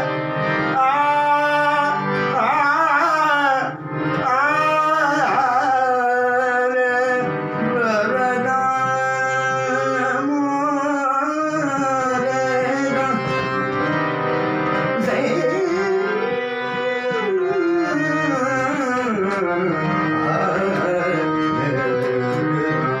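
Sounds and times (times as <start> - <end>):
harmonium sustained notes: 0.0 - 23.0
man singing: 0.0 - 23.0.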